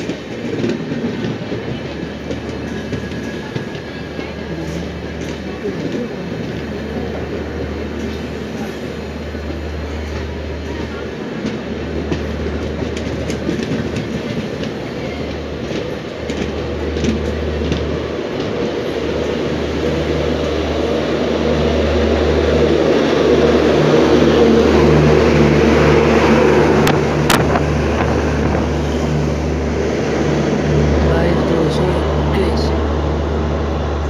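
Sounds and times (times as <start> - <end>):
train coaches rolling past: 0.0 - 34.0.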